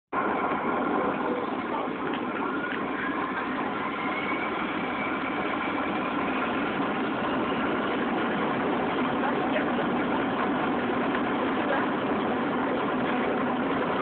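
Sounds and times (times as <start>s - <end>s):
jet engines heard from cabin: 0.1s - 14.0s.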